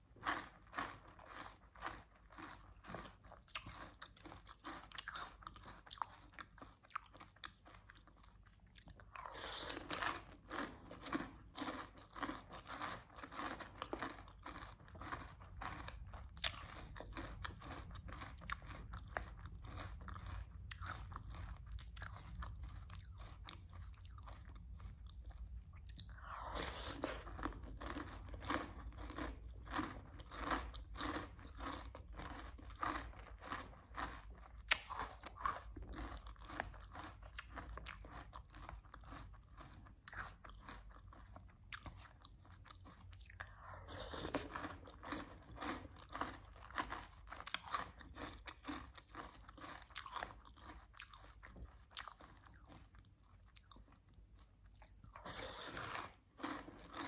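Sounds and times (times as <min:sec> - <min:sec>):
crunching and chewing cereal: 0:00.0 - 0:57.0.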